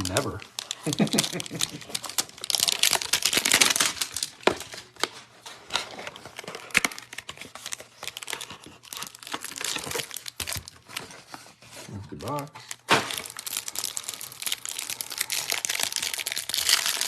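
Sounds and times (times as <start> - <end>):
plastic wrapping crinkling and tearing: 0.0 - 17.0.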